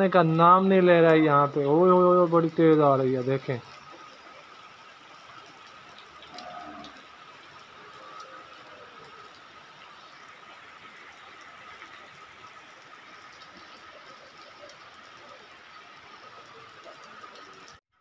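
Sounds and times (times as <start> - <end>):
heavy rain into water: 0.0 - 17.8.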